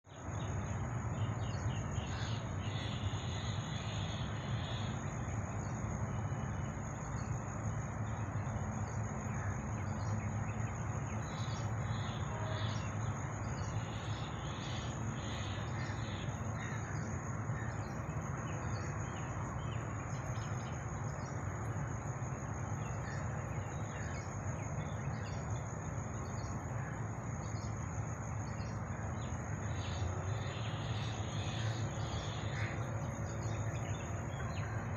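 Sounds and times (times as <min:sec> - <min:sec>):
steady noisy background: 0:00.1 - 0:34.9.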